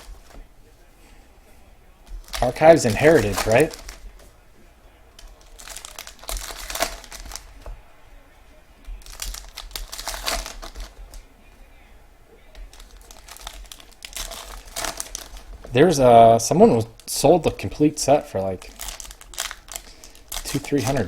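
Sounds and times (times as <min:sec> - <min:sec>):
wrappers crinkling: 0:00.0 - 0:08.0, 0:08.8 - 0:11.3, 0:12.4 - 0:21.0.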